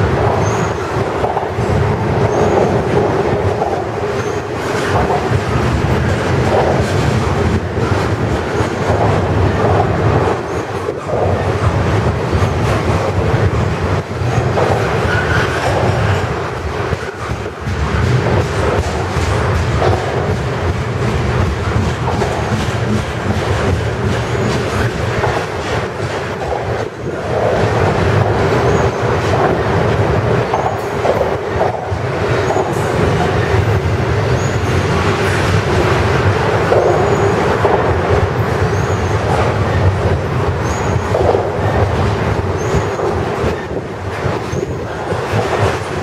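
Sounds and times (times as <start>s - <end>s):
clicking over rail joints: 0.0s - 46.0s
train wheels rumbling on rail: 0.0s - 46.0s.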